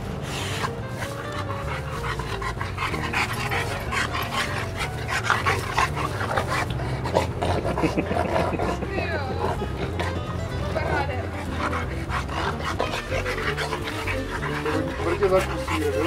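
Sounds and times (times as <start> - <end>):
dog panting: 0.0 - 16.0
dogs play-fighting: 0.0 - 16.0.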